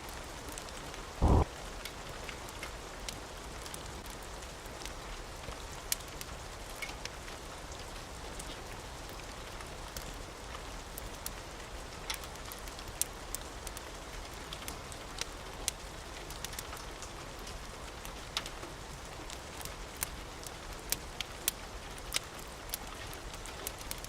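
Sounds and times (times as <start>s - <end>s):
steady rain hiss: 0.0s - 24.0s
wood fire crackling and popping: 0.3s - 24.0s.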